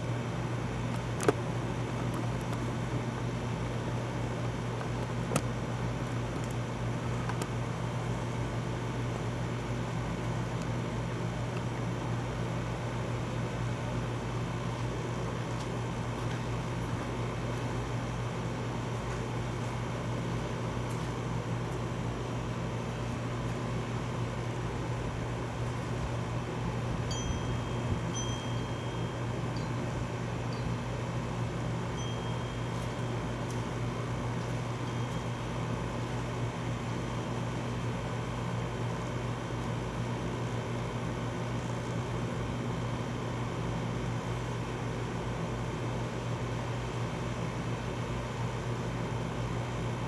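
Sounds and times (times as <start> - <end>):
airy air conditioner noise: 0.0 - 50.0
low mechanical hum: 0.0 - 50.0.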